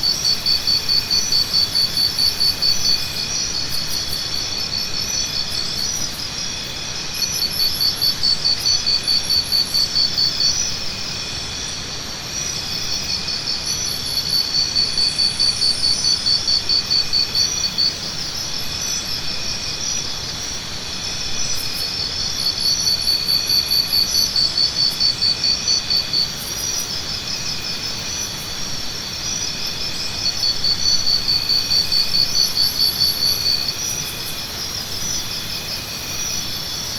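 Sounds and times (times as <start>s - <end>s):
insects chirring chorus: 0.0s - 36.9s
pulsing insect trill: 0.0s - 36.9s.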